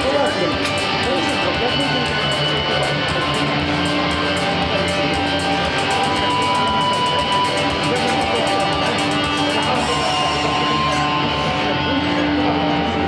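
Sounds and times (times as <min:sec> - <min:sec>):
loud music with steady beat: 0:00.0 - 0:13.0.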